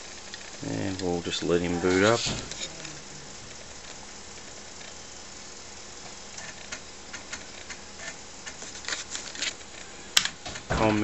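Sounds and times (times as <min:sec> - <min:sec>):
computer hum: 0:00.0 - 0:11.0.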